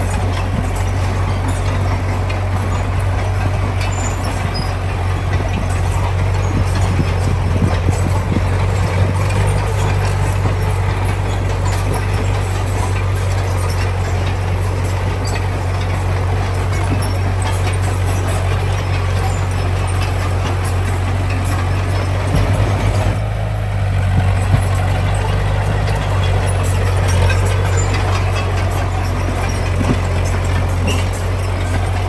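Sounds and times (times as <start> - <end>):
diesel construction machinery running: 0.0 - 32.0.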